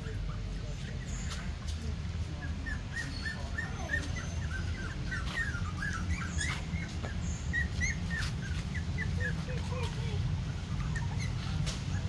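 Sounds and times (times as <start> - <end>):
puppies squeaking and whimpering: 0.8 - 12.0.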